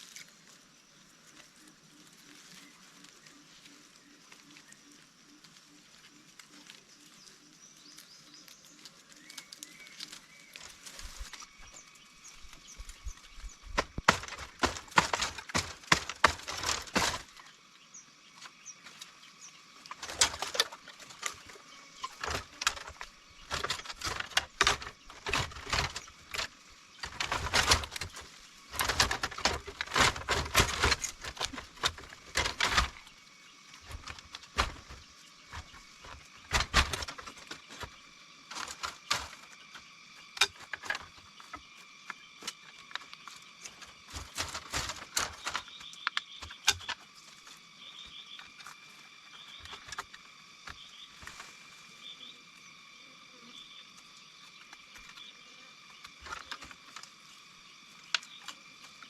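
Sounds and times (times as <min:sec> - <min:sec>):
dry leaves and twigs crackling: 0:00.0 - 0:59.0.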